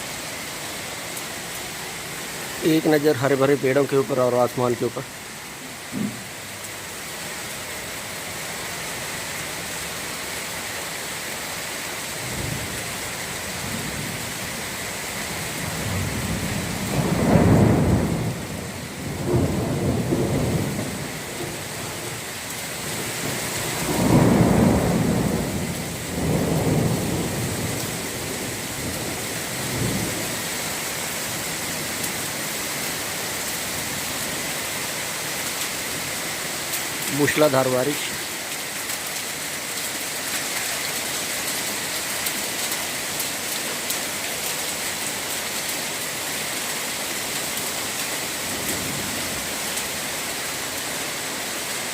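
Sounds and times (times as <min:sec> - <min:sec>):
torrential rain: 0:00.0 - 0:51.9.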